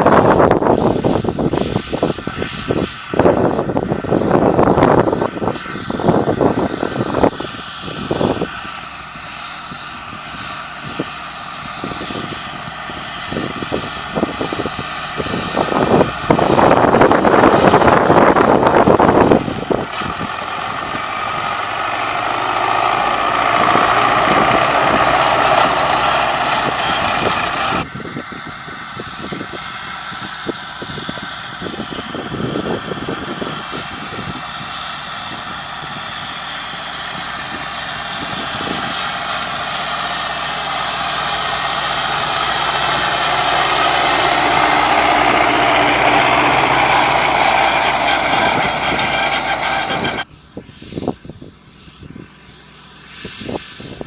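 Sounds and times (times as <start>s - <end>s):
mower rushing surges: 0.0s - 27.9s, 31.4s - 50.3s
tractor diesel engine running: 0.0s - 28.0s, 28.8s - 50.4s.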